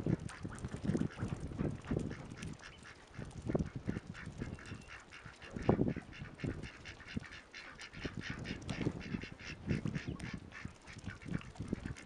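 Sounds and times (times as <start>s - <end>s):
ducks quacking: 0.0s - 12.0s
small water splashes: 0.0s - 12.0s.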